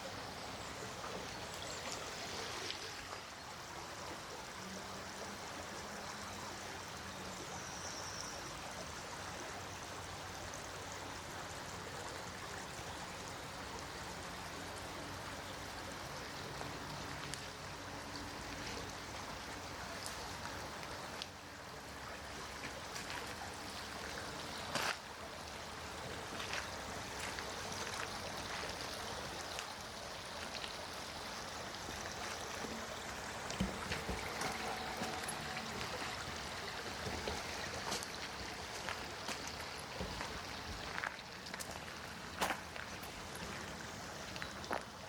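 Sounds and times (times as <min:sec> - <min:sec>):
stream trickling: 0:00.0 - 0:45.0.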